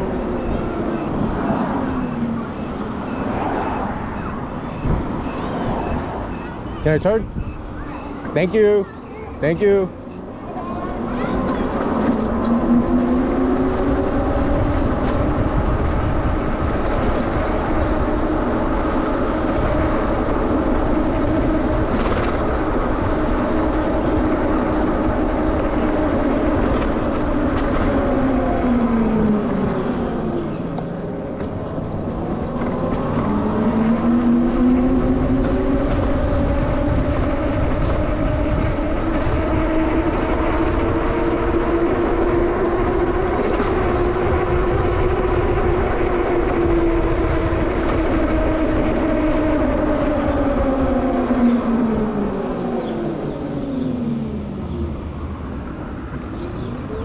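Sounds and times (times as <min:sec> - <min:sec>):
vehicle rumble with whine: 0:00.0 - 0:57.0.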